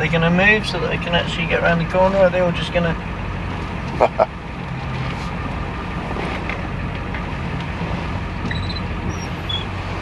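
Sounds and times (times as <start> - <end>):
low engine hum: 0.0 - 10.0
road noise: 0.0 - 10.0.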